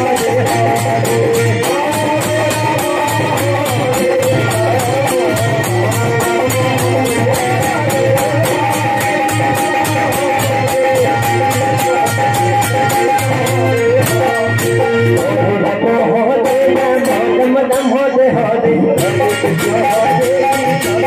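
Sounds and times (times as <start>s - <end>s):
clinking percussion beat: 0.0s - 21.0s
wavering melody line: 0.0s - 21.0s.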